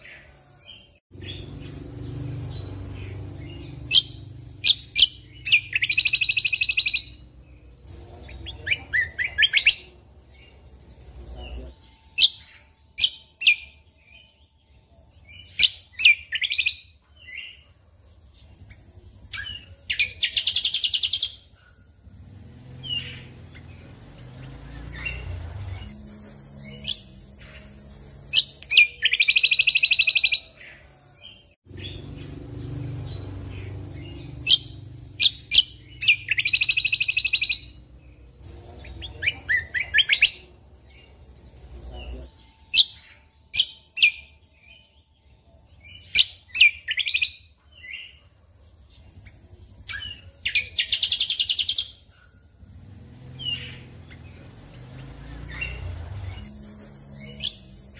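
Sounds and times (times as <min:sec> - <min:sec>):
bird chirping and trilling: 0:00.0 - 0:57.9.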